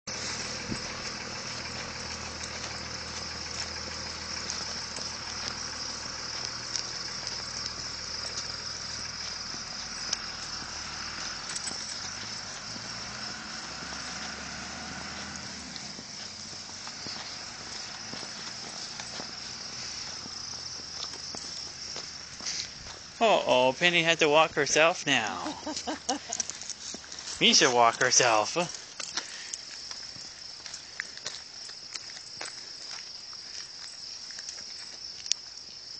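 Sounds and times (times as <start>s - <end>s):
insects chirring: 0.1s - 35.9s.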